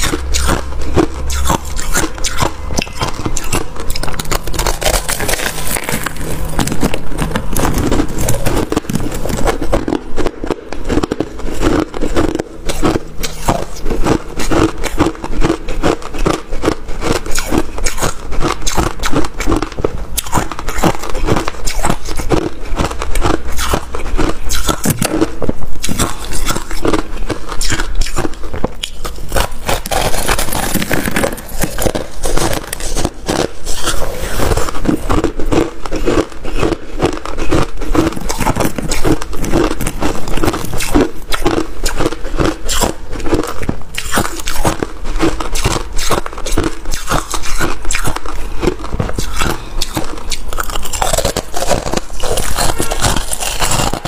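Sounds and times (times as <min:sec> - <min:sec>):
chewing crunchy frost: 0:00.0 - 0:54.0.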